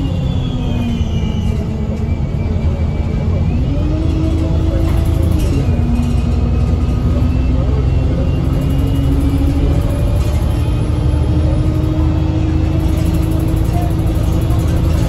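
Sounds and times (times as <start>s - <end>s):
bus diesel engine accelerating: 0.0s - 15.0s
road rumble: 0.0s - 15.0s.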